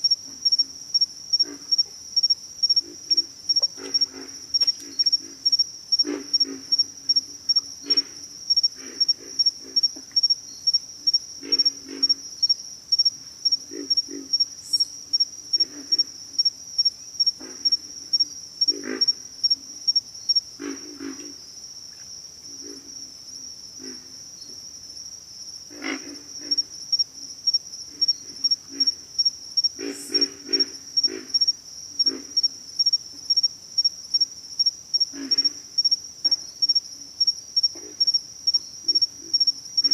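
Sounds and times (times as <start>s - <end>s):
insect chirping high-pitched: 0.0s - 39.9s
frogs grunting: 0.3s - 19.9s, 20.6s - 21.4s, 23.8s - 24.2s, 25.7s - 33.4s, 34.9s - 39.9s.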